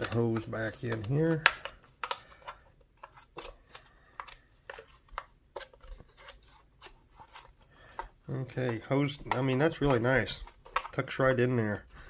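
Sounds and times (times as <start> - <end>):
plastic clicks and rustles: 0.0 - 12.0.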